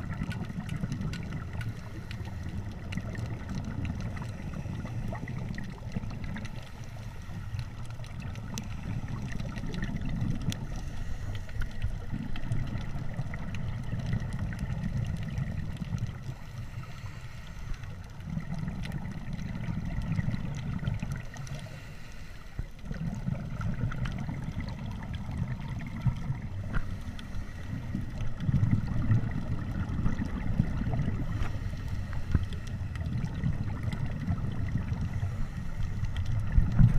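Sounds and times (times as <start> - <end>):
underwater regulator bubbles: 0.0 - 22.0, 22.6 - 36.9.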